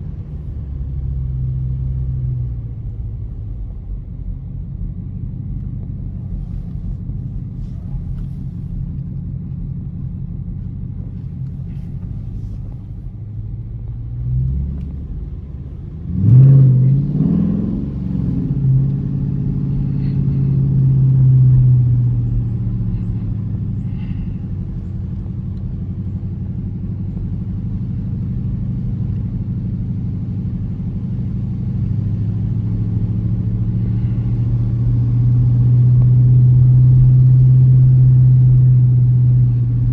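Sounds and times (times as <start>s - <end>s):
car engine revving while driving: 5.2s - 39.9s.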